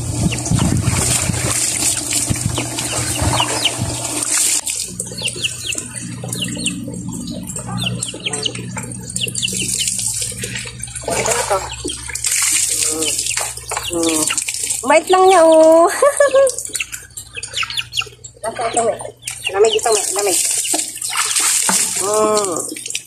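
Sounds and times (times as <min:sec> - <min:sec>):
birds chirping: 0:00.0 - 0:21.4
water splashing in a basin: 0:00.0 - 0:23.0.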